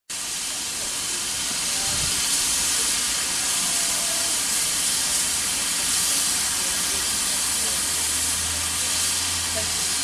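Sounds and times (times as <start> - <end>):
steam locomotive hissing steam: 0.1 - 10.0.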